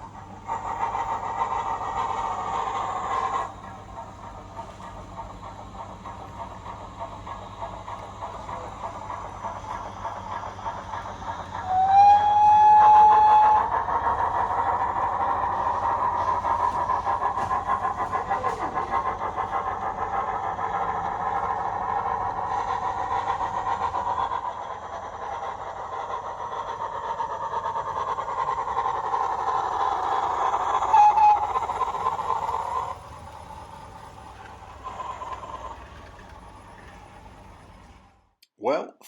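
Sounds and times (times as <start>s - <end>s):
steam locomotive exhaust beats: 0.0s - 38.3s.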